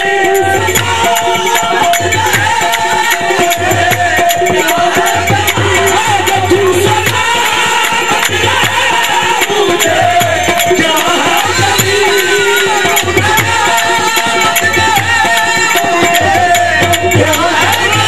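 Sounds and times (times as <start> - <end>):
drum fast rhythm: 0.0 - 18.0
jingling hand percussion: 0.0 - 18.0.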